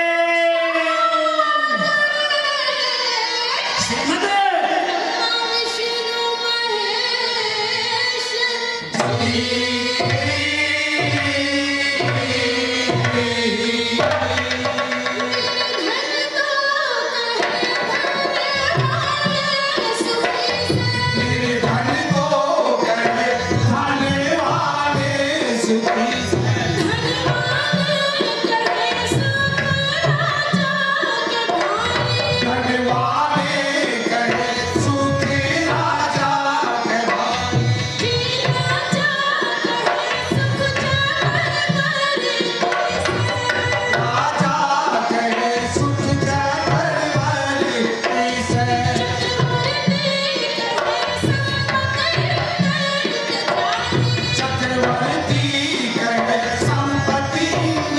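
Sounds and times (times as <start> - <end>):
harmonium: 0.0 - 57.9.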